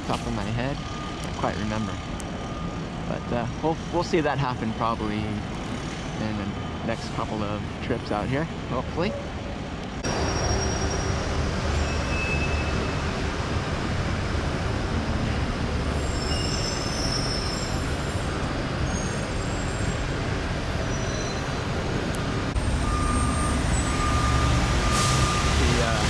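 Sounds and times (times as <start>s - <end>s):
passing vehicles rumbling: 0.0s - 26.0s.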